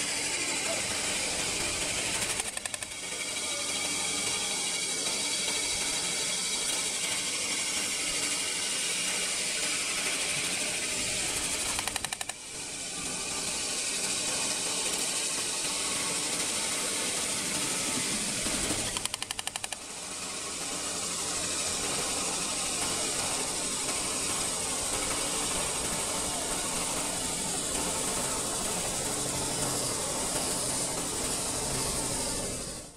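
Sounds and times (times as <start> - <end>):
metal spinning machine hissing: 0.0 - 32.9.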